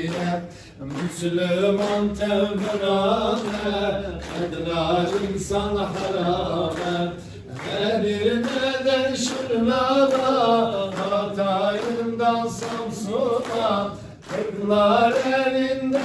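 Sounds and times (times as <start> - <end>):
men singing together: 0.0 - 16.0.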